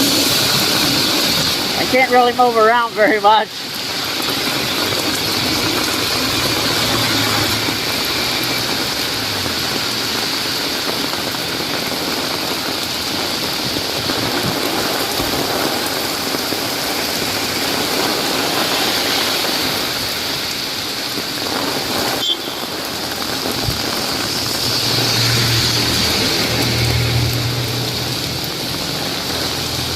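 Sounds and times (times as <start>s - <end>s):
heavy rain on an umbrella: 0.0s - 29.9s
vehicles passing on wet road: 0.0s - 29.9s.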